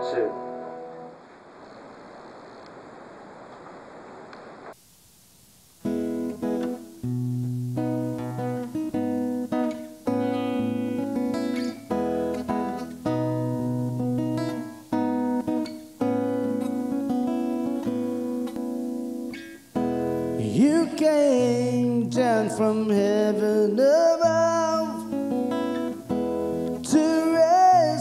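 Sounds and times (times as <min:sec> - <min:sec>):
acoustic guitar chords: 0:00.0 - 0:01.3, 0:05.8 - 0:28.0
steady hiss: 0:00.9 - 0:28.0.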